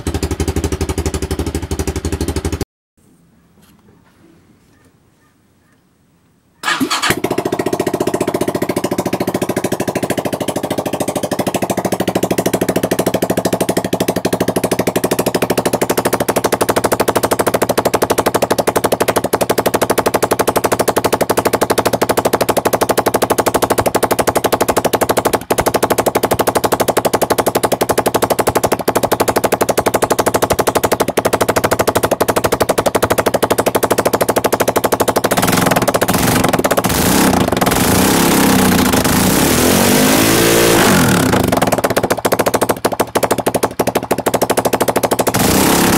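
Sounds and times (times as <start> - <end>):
motorcycle engine starting and idling: 0.0 - 2.6, 6.6 - 45.9.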